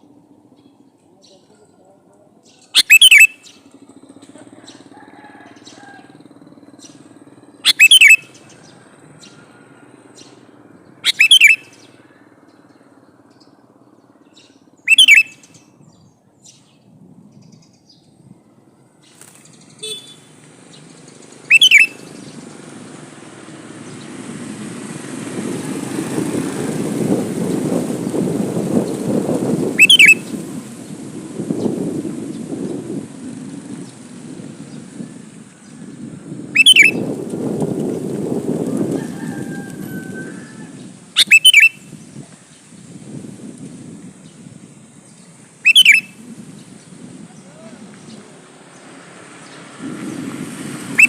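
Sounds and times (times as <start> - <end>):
bird calls: 0.0 - 24.2, 27.4 - 33.0, 33.6 - 38.0, 38.7 - 42.9, 44.2 - 49.8.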